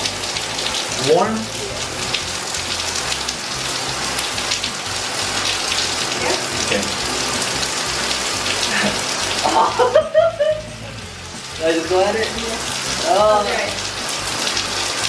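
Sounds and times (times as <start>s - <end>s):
water splashing into bathtub: 0.0s - 15.0s.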